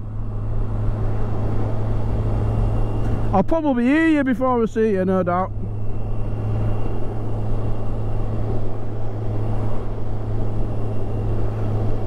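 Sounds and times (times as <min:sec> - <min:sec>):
motorcycle engine drone: 0:00.0 - 0:12.0
wind and road rush: 0:00.0 - 0:12.0.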